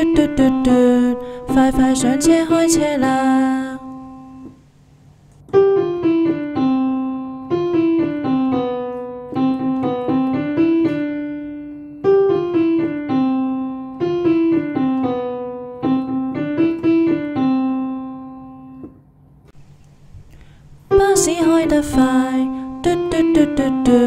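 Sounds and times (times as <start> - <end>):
solo piano melody: 0.0 - 24.0.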